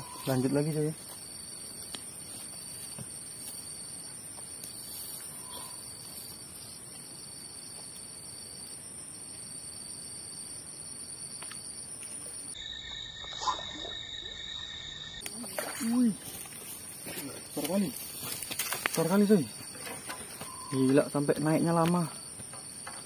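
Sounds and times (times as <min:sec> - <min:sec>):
insects buzzing shrilly: 0:00.0 - 0:23.0
low-pitched insect tone: 0:00.0 - 0:23.0
outdoor background noise: 0:00.0 - 0:23.0.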